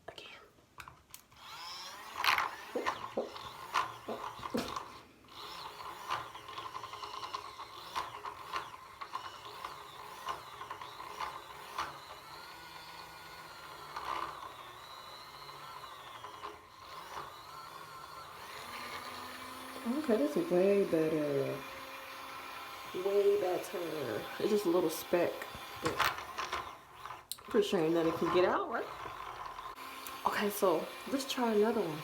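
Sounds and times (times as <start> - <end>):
small motor whining: 1.3 - 32.0.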